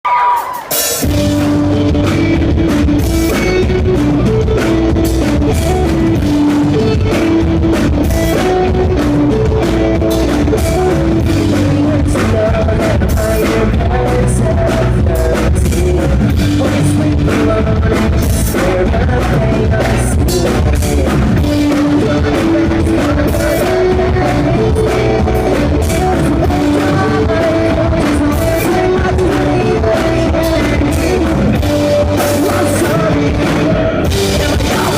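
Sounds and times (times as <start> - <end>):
pop-punk band playing live: 0.0 - 34.9.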